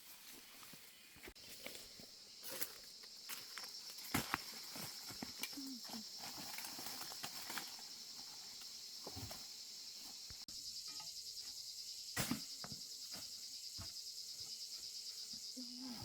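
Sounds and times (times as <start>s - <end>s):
insects trilling: 0.2s - 16.0s.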